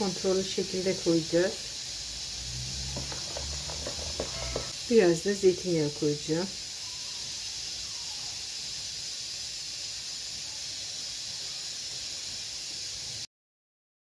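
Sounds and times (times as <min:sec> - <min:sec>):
steady high-pitched hiss: 0:00.0 - 0:13.3.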